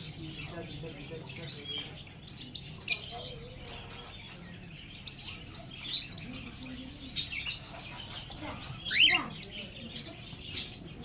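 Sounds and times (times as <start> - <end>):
caged birds chirping: 0.0 - 11.0.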